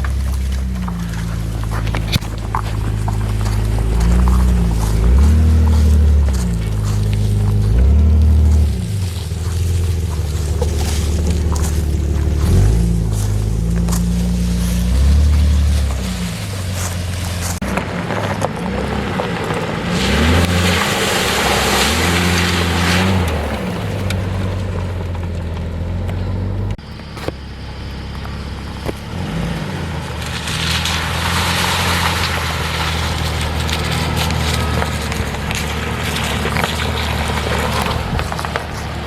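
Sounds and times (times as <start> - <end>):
car engine revving: 0.0 - 39.0
tyres on dirt ground: 0.0 - 39.0.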